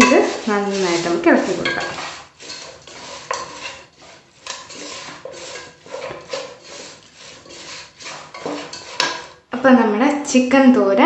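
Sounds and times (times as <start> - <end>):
spatula scraping a pan: 0.0 - 9.5.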